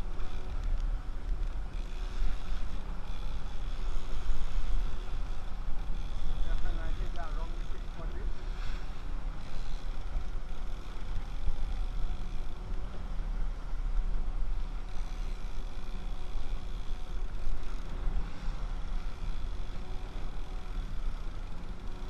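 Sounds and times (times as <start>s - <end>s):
faint steady drone: 0.0s - 22.0s
outboard motors rumbling: 0.0s - 22.0s.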